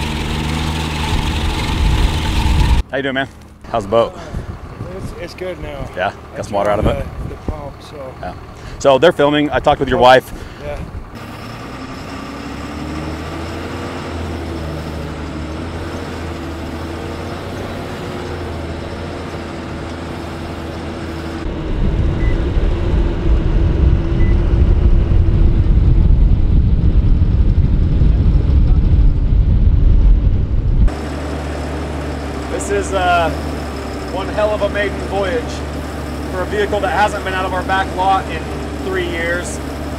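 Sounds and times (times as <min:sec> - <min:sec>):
tracked vehicle engine running: 0:00.0 - 0:39.9.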